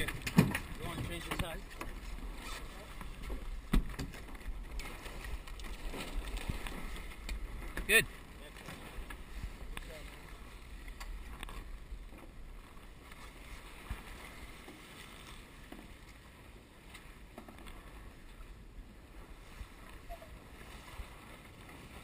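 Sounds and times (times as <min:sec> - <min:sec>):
water splashing along boat hull: 0:00.0 - 0:22.0.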